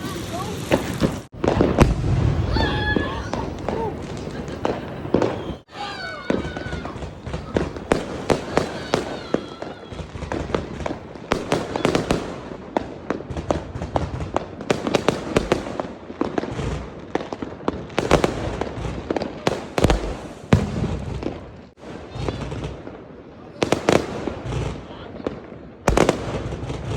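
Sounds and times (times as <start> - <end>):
fireworks bangs and cracks: 0.0 - 26.9
fireworks crackling: 0.0 - 26.9
heavy fireworks booms: 0.0 - 26.9.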